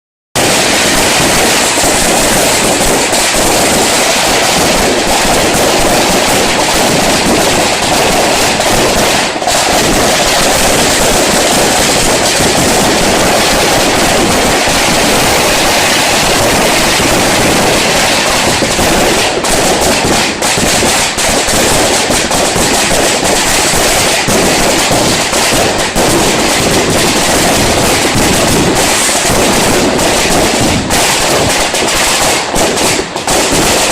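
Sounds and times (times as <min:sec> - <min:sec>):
fireworks cracking and banging: 0:00.3 - 0:33.9.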